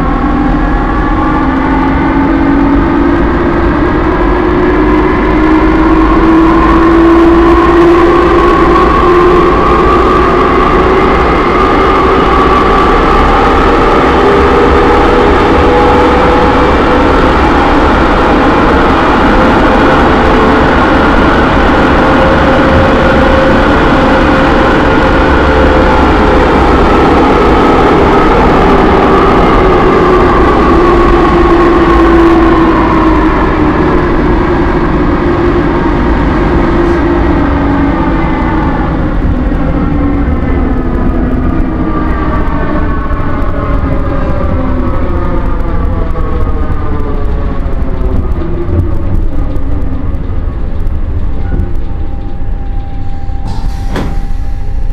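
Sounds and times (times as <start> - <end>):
train motor whine: 0.0 - 54.9
train rumble: 0.0 - 54.9.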